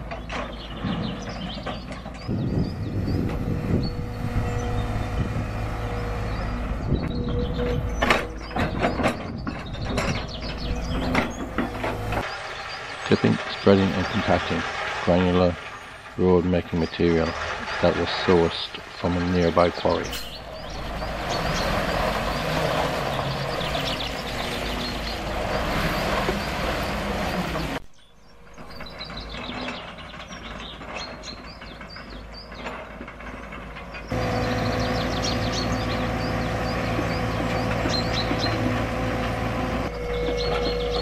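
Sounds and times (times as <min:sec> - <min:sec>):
birds chirping: 0:00.0 - 0:41.0
diesel lorry engine running: 0:00.0 - 0:41.0
distant excavator: 0:00.0 - 0:41.0
excavator diesel engine whining: 0:00.0 - 0:41.0
road stone tipping: 0:00.0 - 0:41.0.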